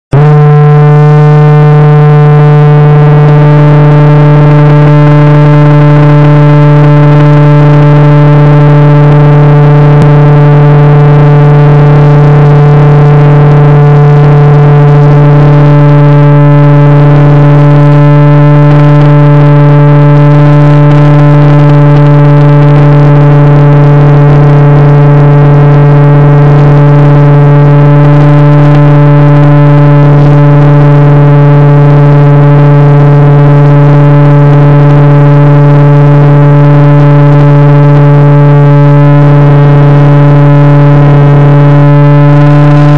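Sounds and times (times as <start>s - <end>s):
model plane motor buzz: 0.2s - 42.9s.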